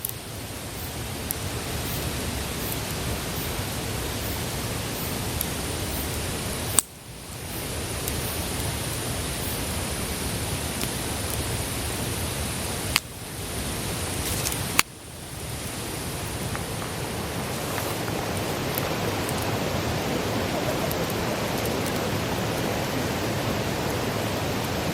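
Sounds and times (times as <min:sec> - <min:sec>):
campfire burning with hiss: 0:00.0 - 0:24.9
fire crackling: 0:00.0 - 0:24.9
sharp crack of fire: 0:00.0 - 0:24.9.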